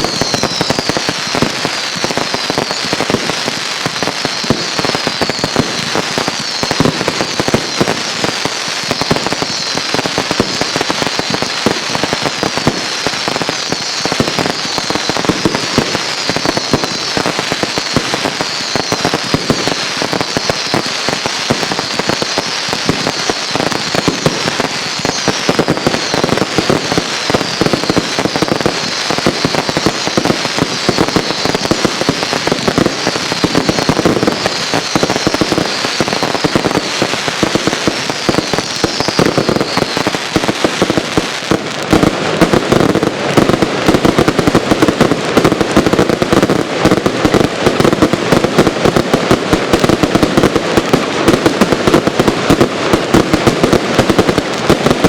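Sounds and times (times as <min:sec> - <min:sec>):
falling firework whistles: 0:00.0 - 0:55.0
fireworks shots and crackling: 0:00.0 - 0:55.0.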